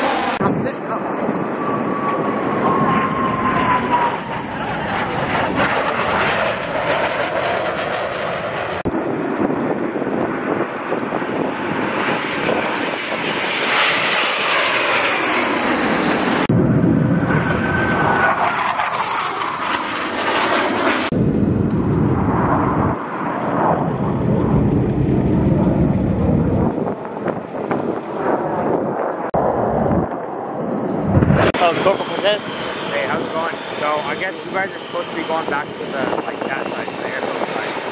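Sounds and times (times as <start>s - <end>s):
jets flying past overhead: 0.0s - 37.9s.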